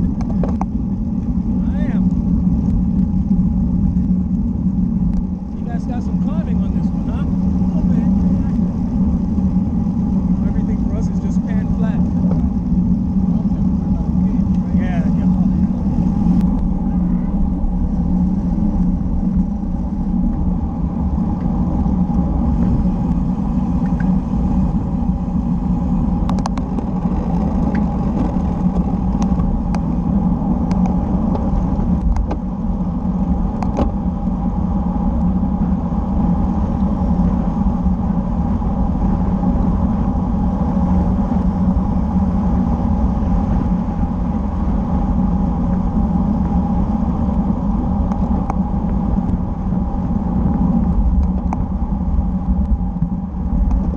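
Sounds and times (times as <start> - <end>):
road rumble: 0.0 - 53.9
wind noise: 0.0 - 53.9.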